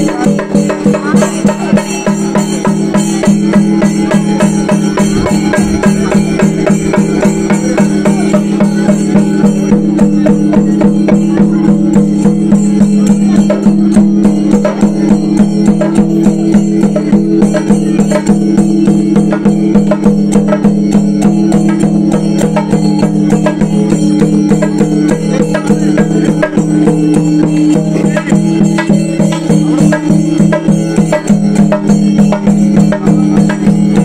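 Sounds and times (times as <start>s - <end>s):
fast drum strokes: 0.0s - 34.0s
jingling cymbals: 0.0s - 34.0s.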